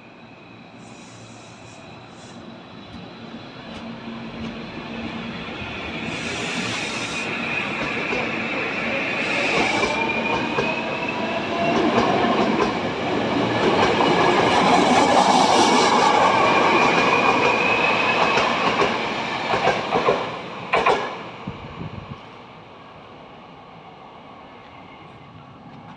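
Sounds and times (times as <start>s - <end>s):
train wheels rumbling: 0.8s - 21.8s.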